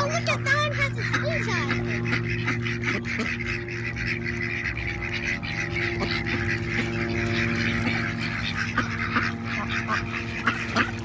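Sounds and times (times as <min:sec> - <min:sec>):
ducks quacking: 0:00.0 - 0:11.0
steady low hum: 0:00.0 - 0:11.0.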